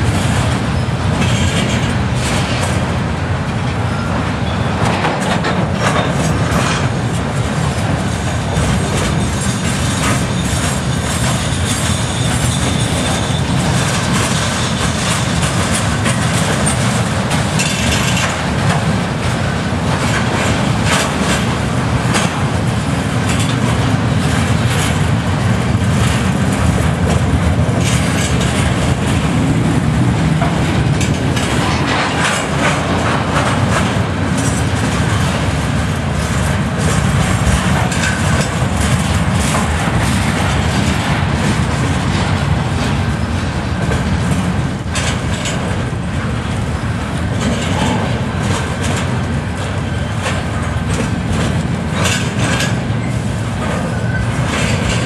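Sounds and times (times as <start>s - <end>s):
steel wheels rumbling on rail: 0.0s - 55.0s
wheels clicking and clanking: 0.0s - 55.0s.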